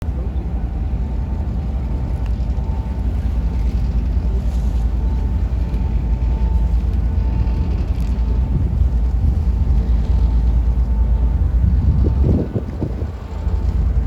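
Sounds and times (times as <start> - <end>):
boat engines rumbling: 0.0 - 14.0
wind buffeting microphone: 0.2 - 14.0.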